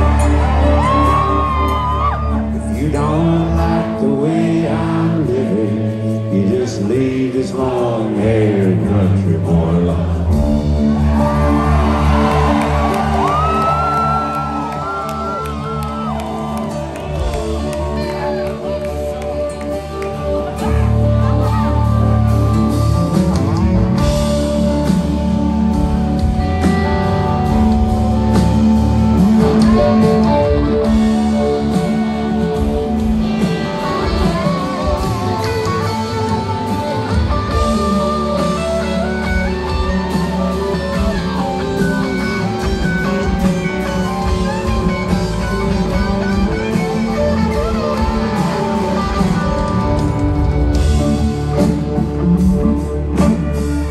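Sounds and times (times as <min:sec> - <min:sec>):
lead electric guitar: 0:00.0 - 0:53.9
rock band playing live: 0:00.0 - 0:53.9.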